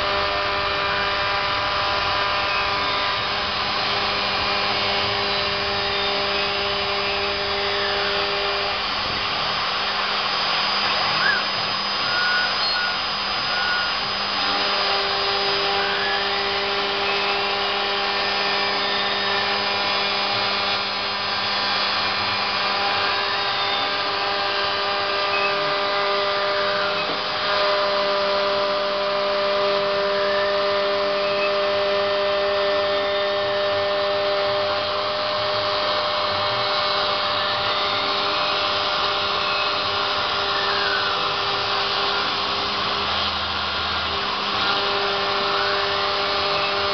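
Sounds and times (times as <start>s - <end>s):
spindle motor whining: 0.0s - 46.9s
stepper motors sweeping in pitch: 0.0s - 46.9s.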